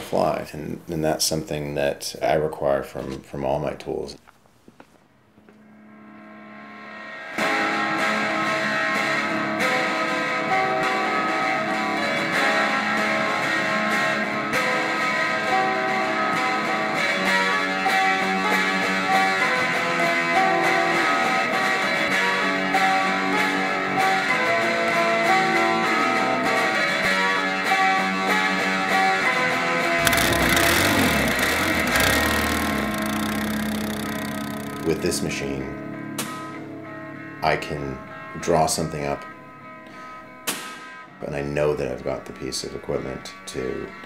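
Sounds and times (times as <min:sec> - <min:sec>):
guitar background music: 0:05.4 - 0:44.0.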